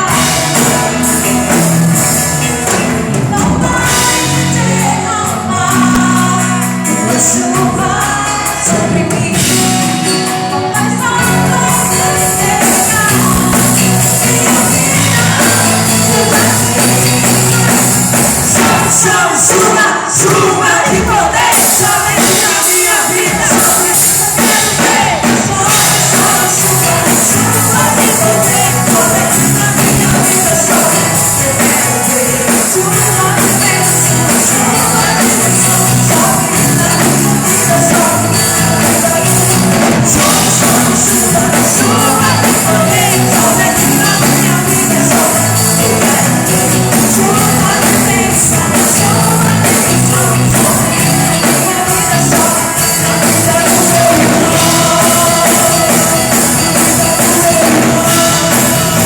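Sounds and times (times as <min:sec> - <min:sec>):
live gospel band playing: 0:00.0 - 0:59.0
person singing: 0:00.0 - 0:59.0.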